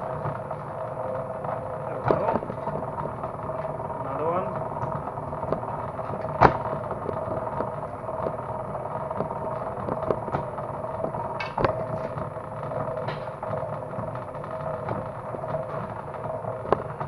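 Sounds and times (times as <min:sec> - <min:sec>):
cable stripping machine humming: 0:00.0 - 0:17.0.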